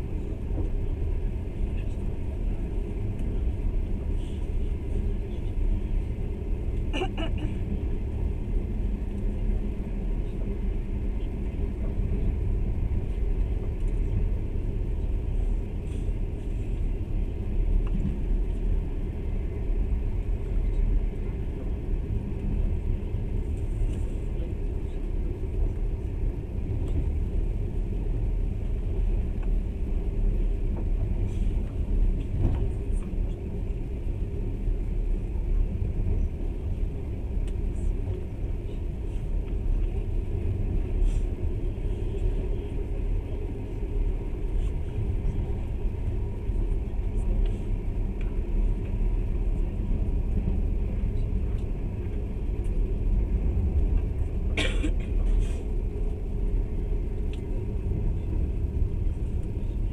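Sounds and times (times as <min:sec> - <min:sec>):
train rattle: 0:00.0 - 0:59.9
train rumbling on track: 0:00.0 - 0:59.9.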